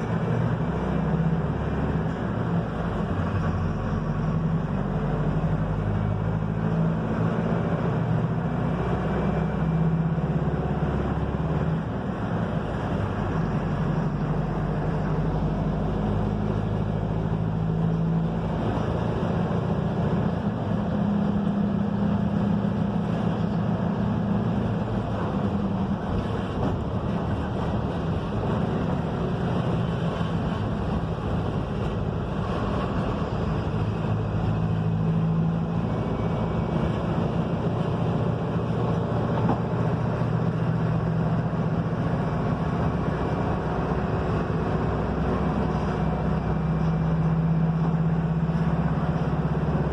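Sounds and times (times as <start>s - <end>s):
bus diesel engine running: 0.0s - 49.9s
road and wind noise: 0.0s - 49.9s.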